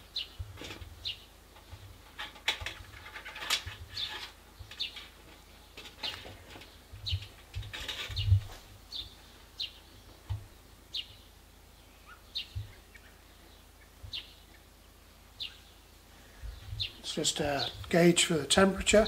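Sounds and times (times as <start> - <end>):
small bird chirping: 0.0 - 2.2, 2.8 - 18.0.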